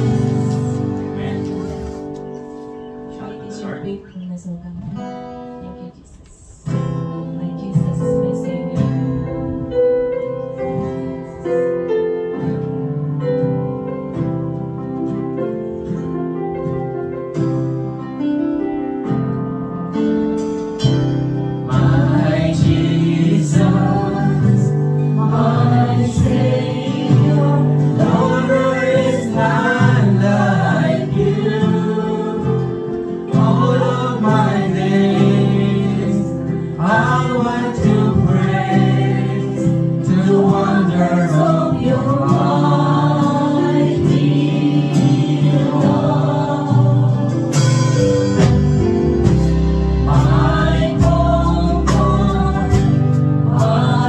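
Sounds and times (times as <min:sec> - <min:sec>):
worship band playing: 0:00.0 - 0:54.0.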